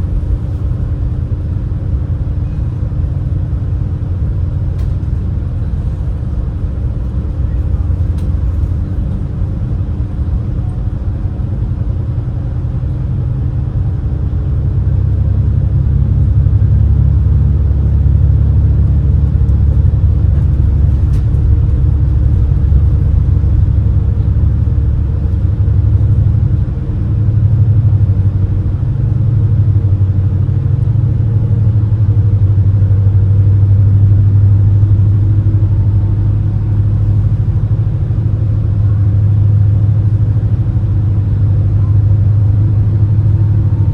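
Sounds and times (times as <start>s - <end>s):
boat engine rumble: 0.0s - 43.9s.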